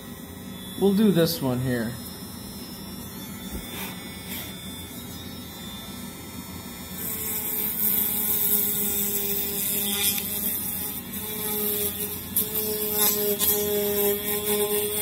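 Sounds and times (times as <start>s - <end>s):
rotary tool humming: 0.0s - 15.0s.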